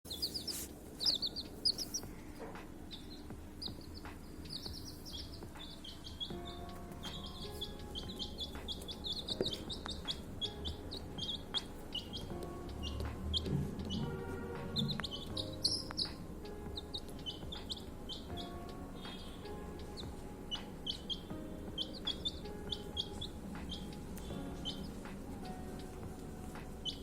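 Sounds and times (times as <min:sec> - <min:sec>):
baby chicks peeping: 0:00.1 - 0:27.0.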